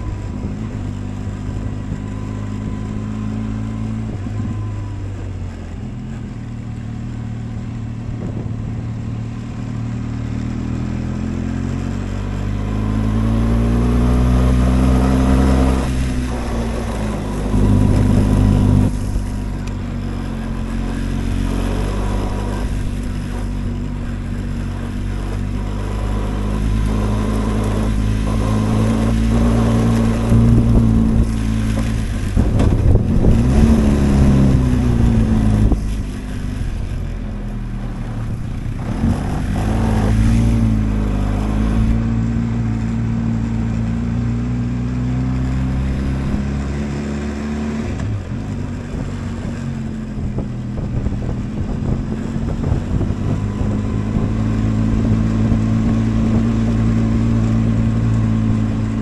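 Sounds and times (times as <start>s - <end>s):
motorcycle engine running: 0.0s - 47.4s, 48.1s - 59.0s.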